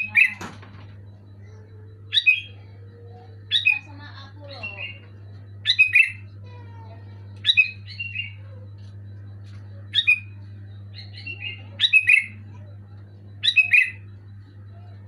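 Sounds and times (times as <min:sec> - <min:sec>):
bird singing chirpy phrases: 0:00.0 - 0:15.0
steady low hum: 0:00.0 - 0:15.0.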